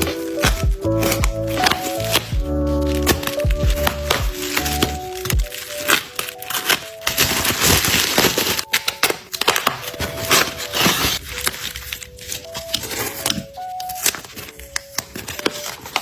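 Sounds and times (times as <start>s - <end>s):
packaging rustling and crinkling: 0.0s - 16.0s
soft background music: 0.0s - 16.0s.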